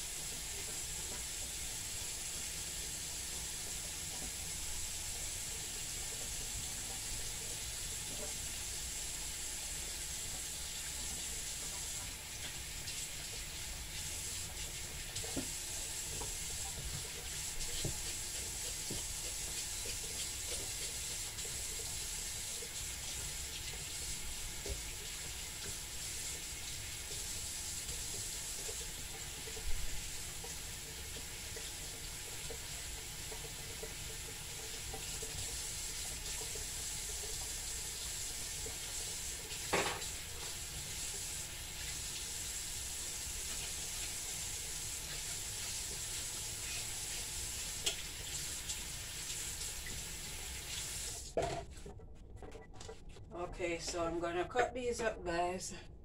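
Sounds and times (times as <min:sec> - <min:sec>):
kitchen tap running into sink: 0:00.0 - 0:51.7.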